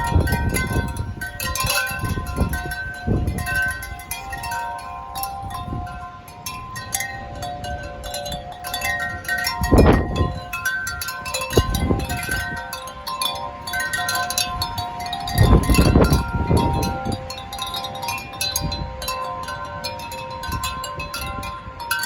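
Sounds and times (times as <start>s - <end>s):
wind chimes ringing: 0.0s - 22.0s
wind rumble on microphone: 0.0s - 22.0s.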